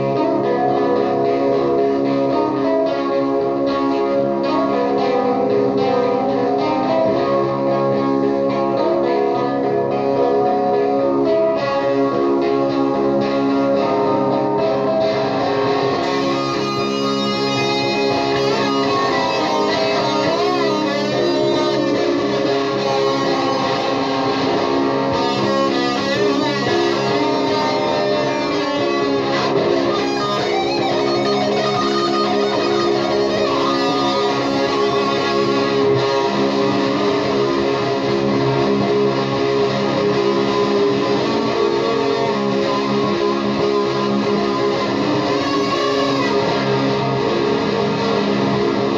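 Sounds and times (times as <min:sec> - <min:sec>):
droning electric guitar: 0:00.0 - 0:48.9
warbling guitar tones: 0:00.0 - 0:48.9.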